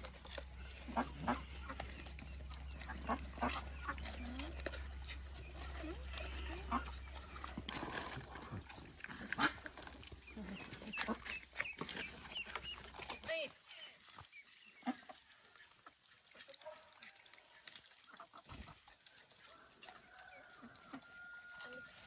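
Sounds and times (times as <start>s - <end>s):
farm animals calling: 0.0s - 22.0s.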